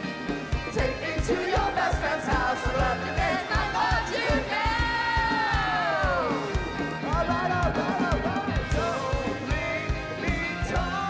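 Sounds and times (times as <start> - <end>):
rock band playing: 0.0 - 11.0
wordless singing: 0.5 - 11.0.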